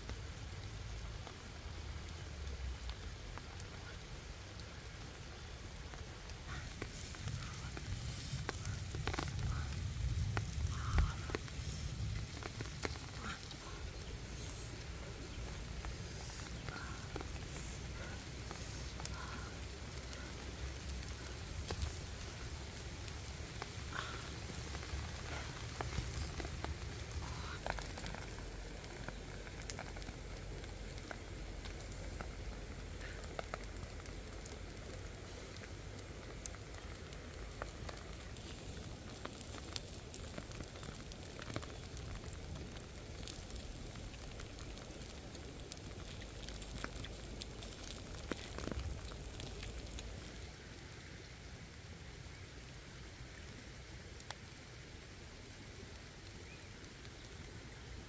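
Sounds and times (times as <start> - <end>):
chicken wings sizzling on a grill: 0.0 - 58.0
wood fire crackling: 0.0 - 58.0.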